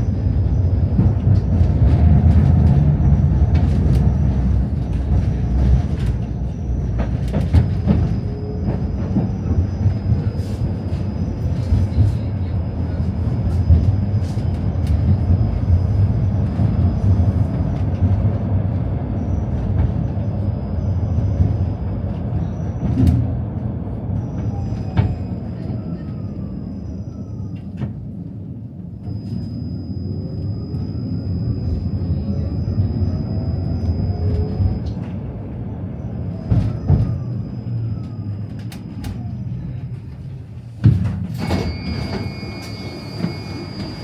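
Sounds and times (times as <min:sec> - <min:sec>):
tram rumbling on rails: 0:00.0 - 0:44.0.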